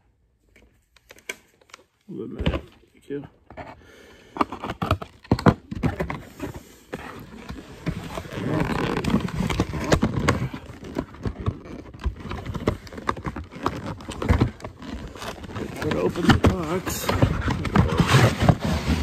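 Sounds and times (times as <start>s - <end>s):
box rustling: 2.2s - 19.0s.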